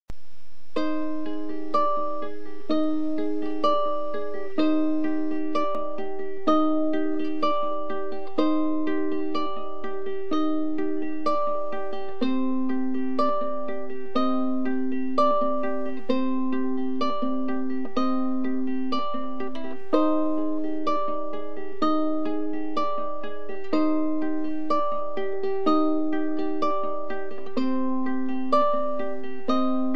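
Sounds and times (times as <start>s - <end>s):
ukulele strumming chords: 0.1s - 29.9s.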